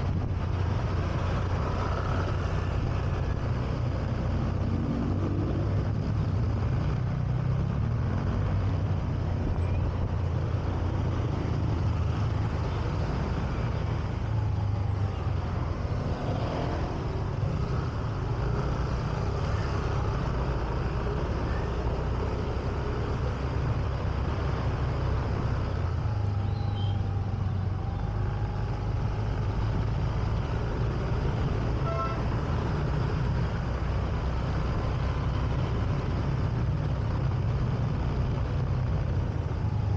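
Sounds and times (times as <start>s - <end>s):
road noise: 0.0s - 39.9s
traffic of motorbikes and cars: 0.0s - 39.9s.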